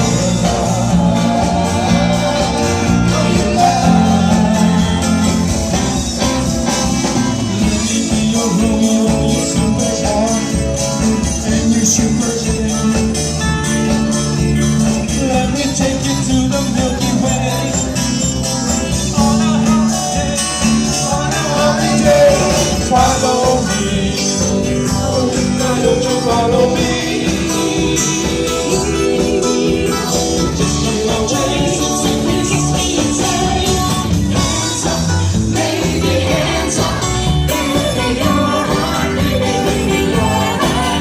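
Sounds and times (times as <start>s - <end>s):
upbeat band song with singing: 0.0s - 41.0s.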